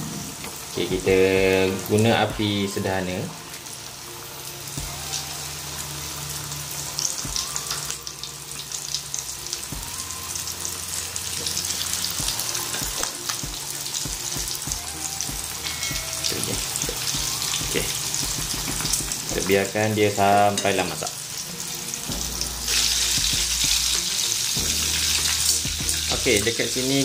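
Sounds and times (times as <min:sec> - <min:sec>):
chicken deep-frying in oil: 0:00.0 - 0:27.0.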